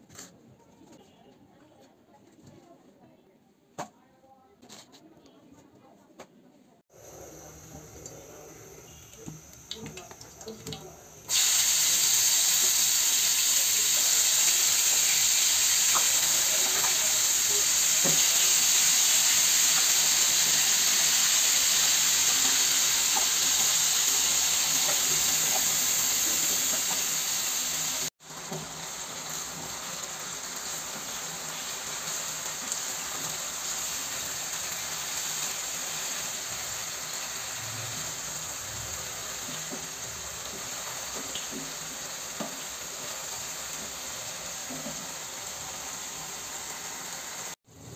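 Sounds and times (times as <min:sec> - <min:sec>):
fish sizzling in hot oil: 0:07.0 - 0:47.6.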